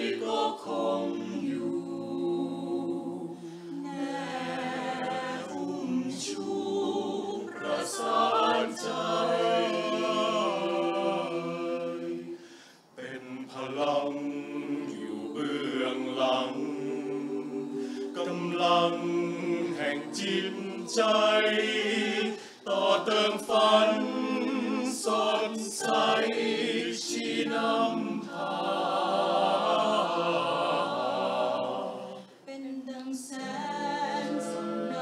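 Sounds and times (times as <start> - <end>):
choir singing a cappella: 0.0 - 35.0.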